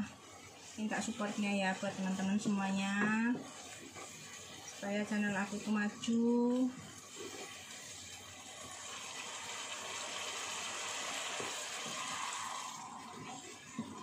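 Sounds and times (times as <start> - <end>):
wooden spatula stirring: 0.0 - 8.8, 11.3 - 14.0
sauce bubbling and sizzling in a pan: 0.0 - 14.0.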